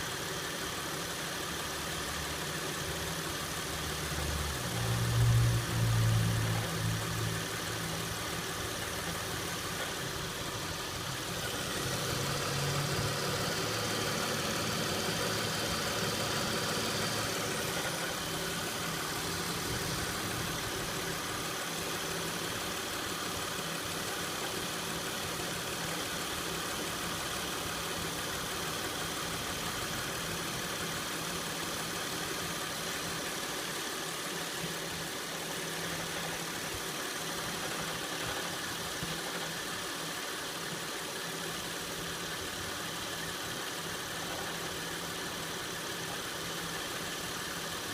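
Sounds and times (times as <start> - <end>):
car engine idling with rattle: 0.0 - 47.9.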